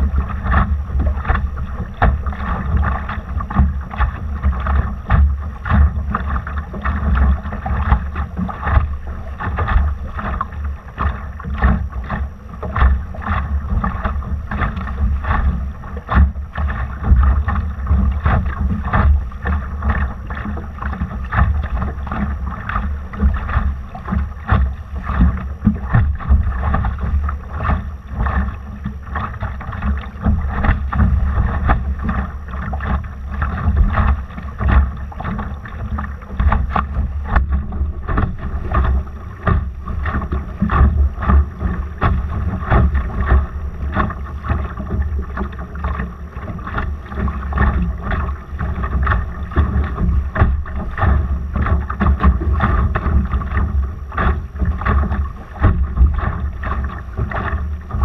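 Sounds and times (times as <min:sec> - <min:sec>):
water slapping against hull: 0:00.0 - 0:58.0
wind rumble on microphone: 0:00.0 - 0:58.0.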